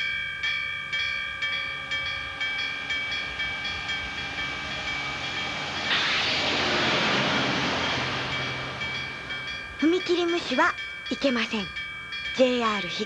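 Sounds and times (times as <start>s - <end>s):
level crossing alarm ringing: 0.0s - 6.7s, 7.6s - 13.0s
passing train rushing: 0.0s - 13.0s.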